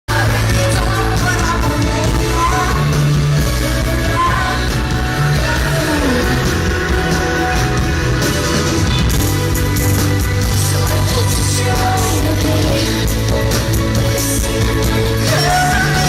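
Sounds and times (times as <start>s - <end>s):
person singing: 0.1s - 16.0s
synthpop band playing live: 0.1s - 16.0s.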